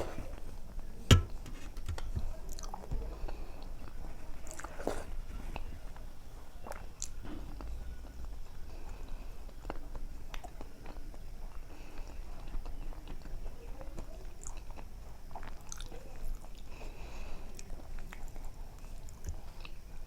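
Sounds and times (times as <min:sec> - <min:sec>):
chewing and mouth sounds: 0:02.3 - 0:20.0.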